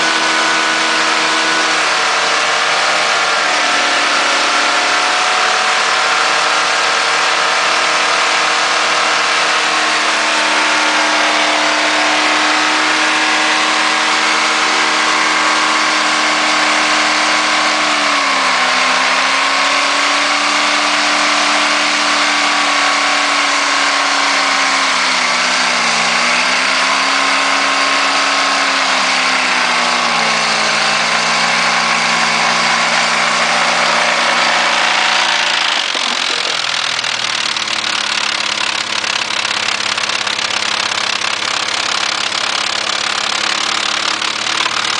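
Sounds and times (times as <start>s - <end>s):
car engine at high revs: 0.0s - 44.9s.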